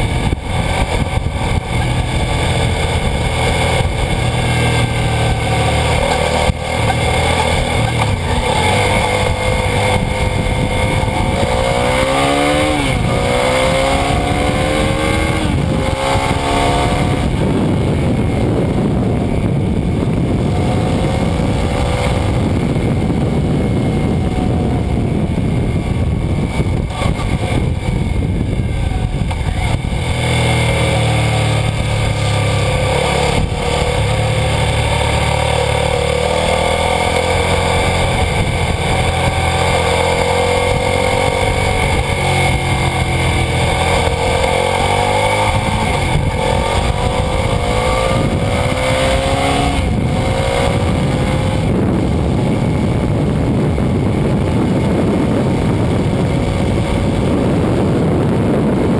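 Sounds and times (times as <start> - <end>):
motorcycle engine accelerating: 0.0 - 58.9
wind and road noise: 0.0 - 58.9.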